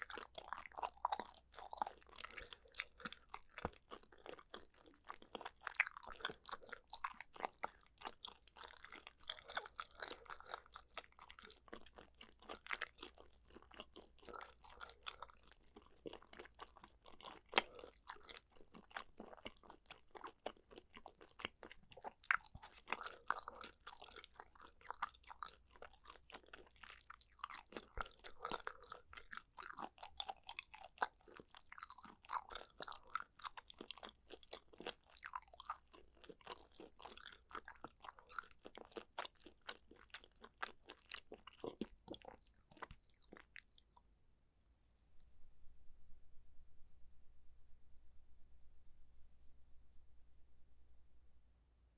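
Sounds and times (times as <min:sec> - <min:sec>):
crunchy chewing: 0:00.0 - 0:44.0.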